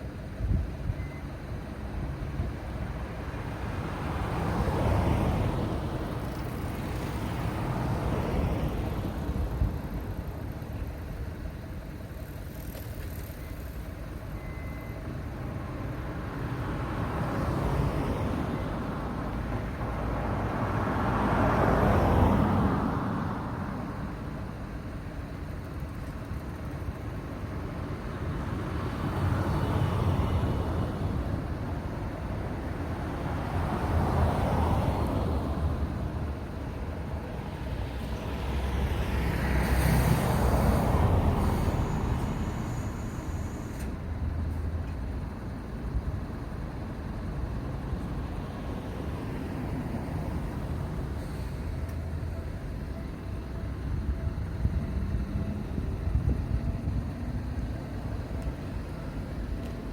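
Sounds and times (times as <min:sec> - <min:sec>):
steady road noise: 0:00.0 - 0:59.9
vehicles driving past: 0:00.0 - 0:59.9.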